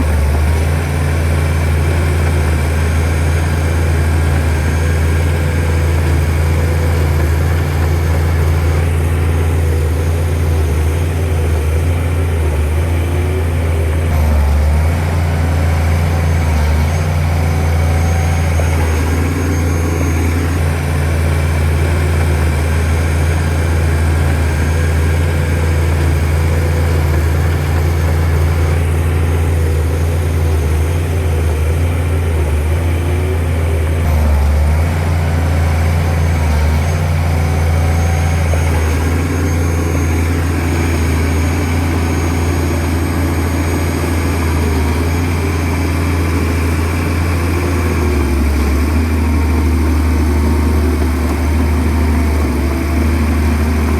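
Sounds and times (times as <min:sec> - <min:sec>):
bulldozer diesel engine drone: 0:00.0 - 0:53.9.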